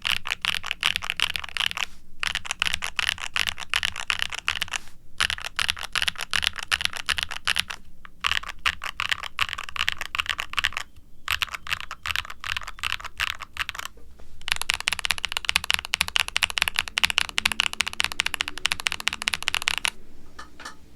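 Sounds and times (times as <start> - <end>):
mechanical keyboard typing: 0.0 - 20.0.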